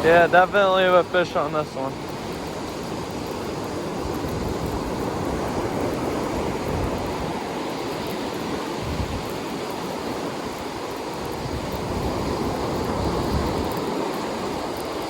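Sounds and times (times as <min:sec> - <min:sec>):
surf breaking on beach: 0:00.0 - 0:15.0
wind: 0:00.0 - 0:15.0.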